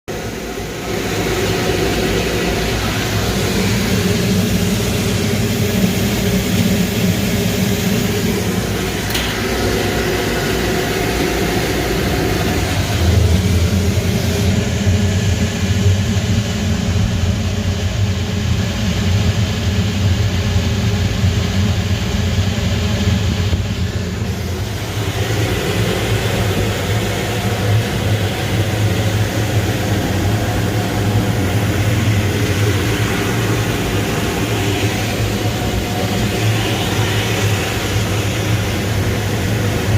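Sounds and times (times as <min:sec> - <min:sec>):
deep hum: 0:00.1 - 0:39.9
machinery droning: 0:00.1 - 0:39.9.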